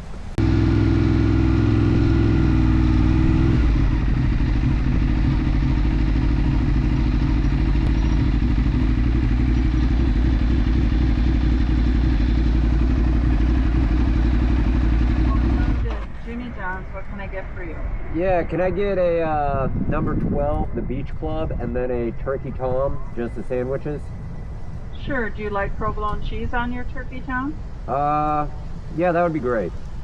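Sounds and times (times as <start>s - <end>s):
motorcycle engine running: 0.0s - 17.4s, 18.4s - 30.0s.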